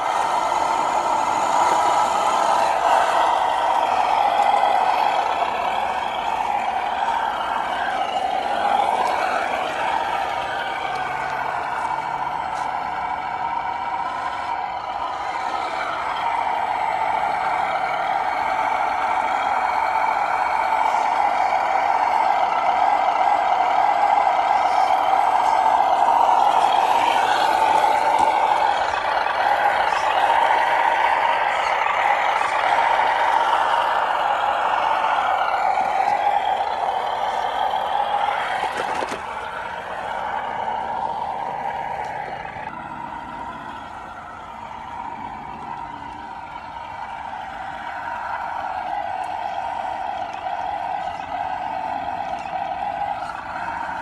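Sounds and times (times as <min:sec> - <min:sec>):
electric motor whining: 0:00.0 - 0:47.8.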